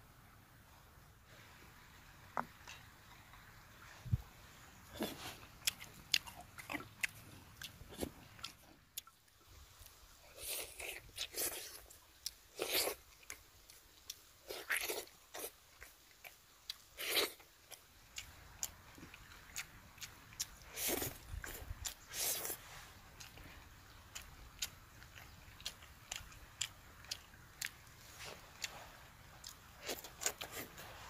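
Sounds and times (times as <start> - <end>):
crunchy bites and chewing: 4.8 - 31.0.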